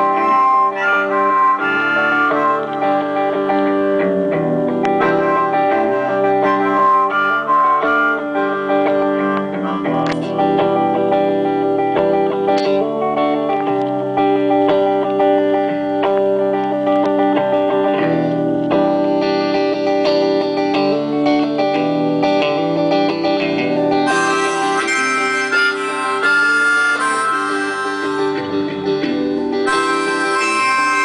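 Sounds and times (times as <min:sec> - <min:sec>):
harmonica held notes: 0:00.0 - 0:14.1, 0:17.7 - 0:31.0
guitar strumming: 0:00.0 - 0:31.0.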